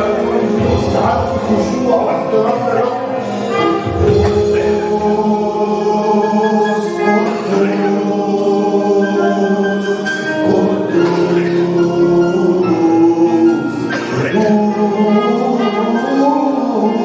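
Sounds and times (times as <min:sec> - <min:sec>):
choir singing: 0:00.0 - 0:17.0
instrumental accompaniment: 0:00.0 - 0:17.0.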